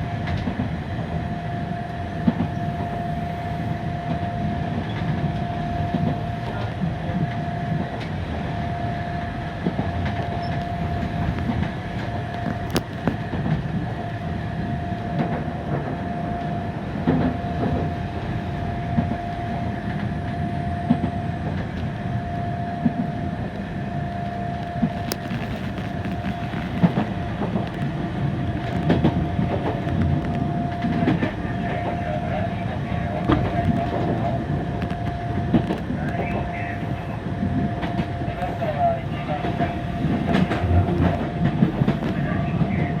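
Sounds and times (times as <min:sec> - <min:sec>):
tram rumbling with whine: 0:00.0 - 0:43.0.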